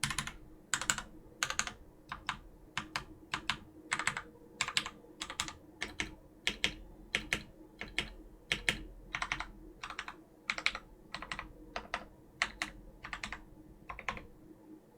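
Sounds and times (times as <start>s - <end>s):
mechanical keyboard typing: 0.0s - 14.3s.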